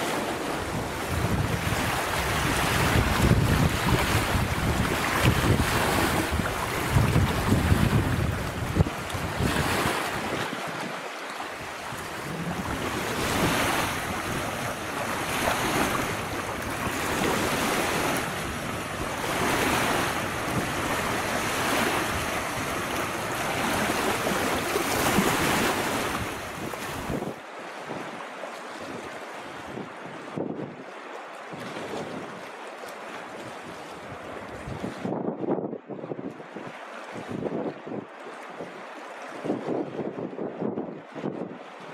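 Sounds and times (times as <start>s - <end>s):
wind buffeting microphone: 0.0s - 32.5s, 33.3s - 41.9s
waves lapping against rocks: 0.0s - 35.2s, 36.3s - 41.9s.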